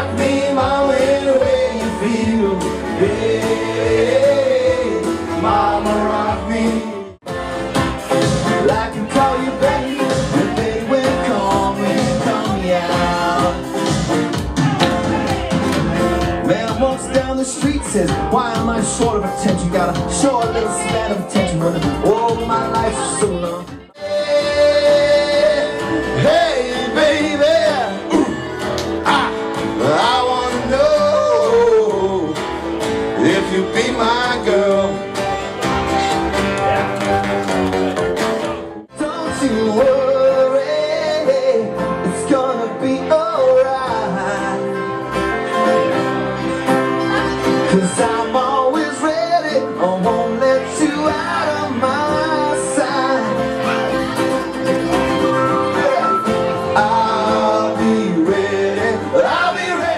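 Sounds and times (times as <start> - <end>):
guitar: 0.0 - 59.9
live country band music: 0.0 - 59.9.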